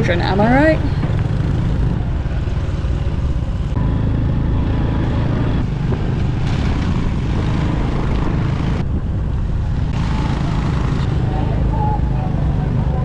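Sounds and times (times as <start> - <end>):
motorbike engine rumbling: 0.0 - 13.0.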